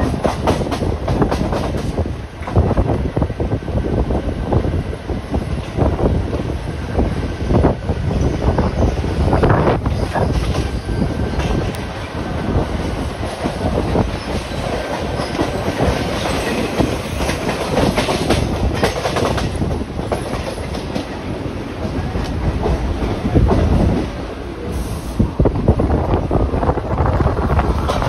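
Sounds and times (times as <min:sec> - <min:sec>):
train wheels clattering on rails: 0:00.0 - 0:03.4, 0:05.3 - 0:26.2, 0:27.0 - 0:28.0.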